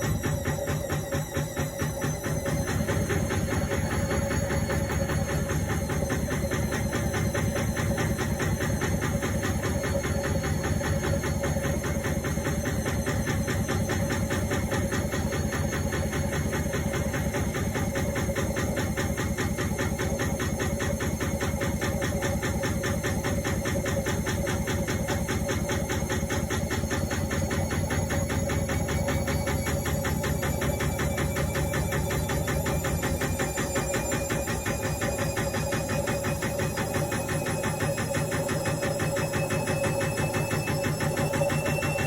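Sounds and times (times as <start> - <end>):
washing machine running: 0.0 - 42.0.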